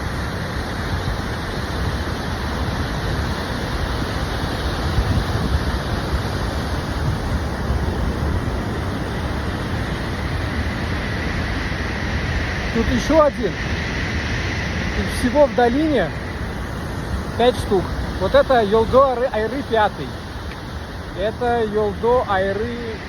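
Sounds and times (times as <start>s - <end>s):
waterfall rushing: 0.0s - 23.0s
wind buffeting microphone: 0.0s - 23.0s.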